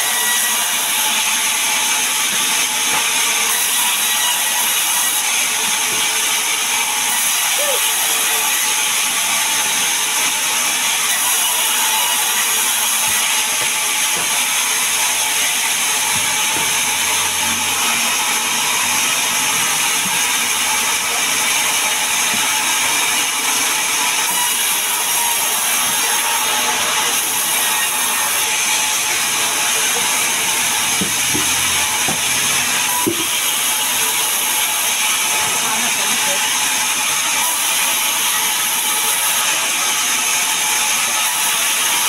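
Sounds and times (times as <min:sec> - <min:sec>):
band saw whining: 0:00.0 - 0:42.0.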